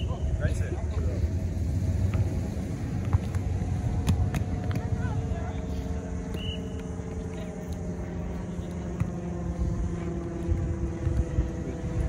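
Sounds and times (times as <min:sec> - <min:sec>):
droning motor hum: 0:00.0 - 0:12.0.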